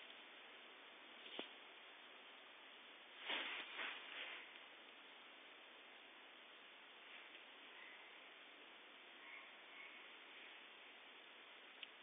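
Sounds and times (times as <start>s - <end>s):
microphone hiss: 0.0s - 12.0s.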